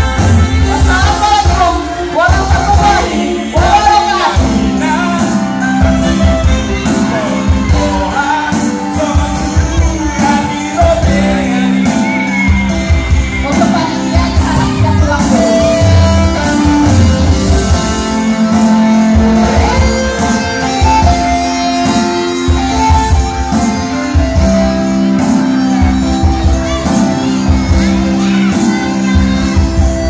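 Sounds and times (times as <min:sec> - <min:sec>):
pop song with singing: 0:00.0 - 0:30.0.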